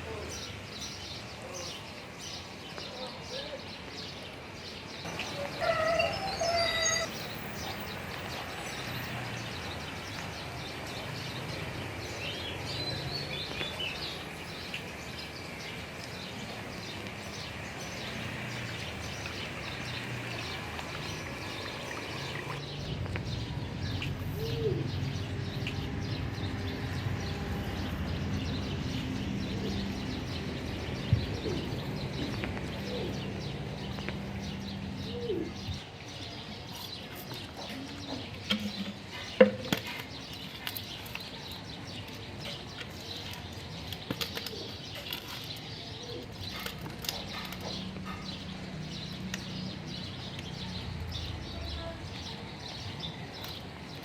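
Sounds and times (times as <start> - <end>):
birds chirping and calling: 0.0 - 54.0.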